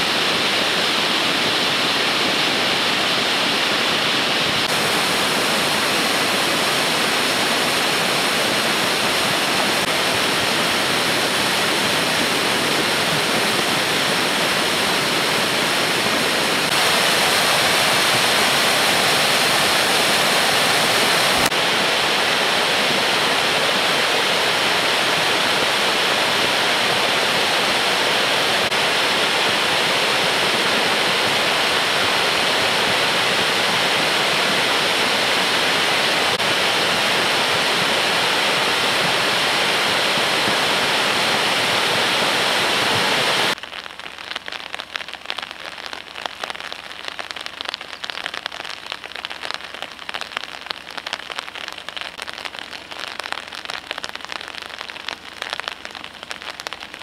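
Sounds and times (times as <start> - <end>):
mudflow rushing down river channel: 0.0 - 57.0.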